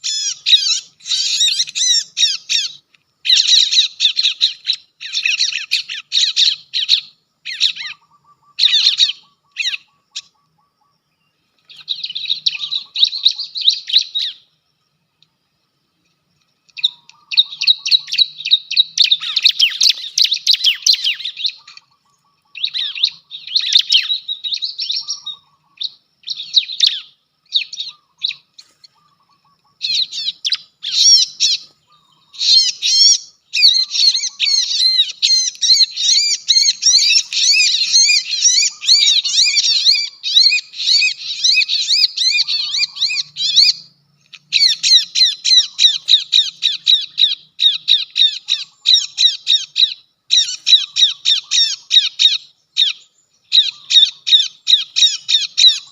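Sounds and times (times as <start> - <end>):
birds chirping shrilly: 0.0 - 10.7, 11.4 - 14.6, 16.7 - 55.9.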